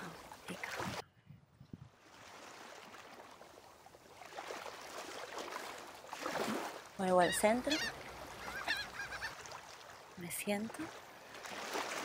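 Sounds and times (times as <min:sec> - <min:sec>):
water lapping: 0:00.0 - 0:01.0, 0:01.9 - 0:12.0.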